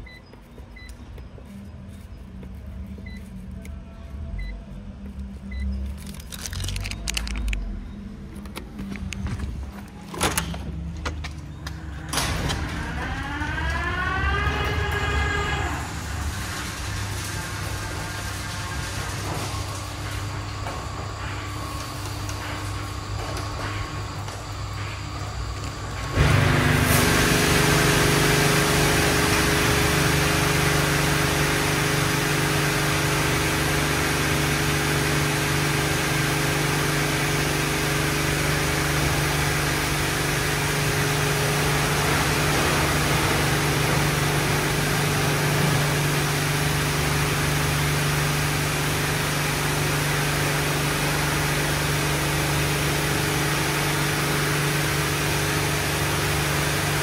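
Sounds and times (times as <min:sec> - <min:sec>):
car wash machine hum: 0:00.0 - 0:07.5, 0:08.1 - 0:57.0.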